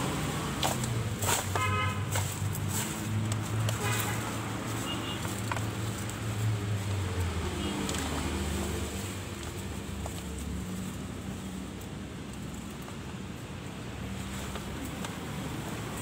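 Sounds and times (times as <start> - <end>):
dry leaves and soil scraping: 0.0 - 16.0.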